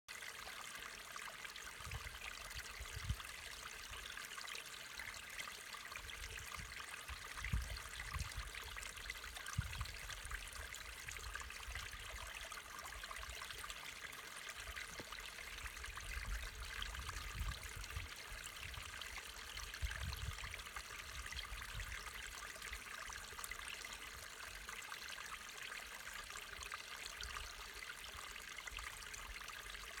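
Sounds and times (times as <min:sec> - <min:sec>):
stream trickling over stones: 0:00.1 - 0:30.0.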